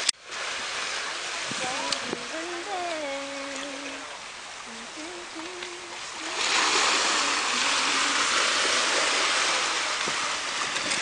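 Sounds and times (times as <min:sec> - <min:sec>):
sea surf washing over shore: 0:00.0 - 0:11.0.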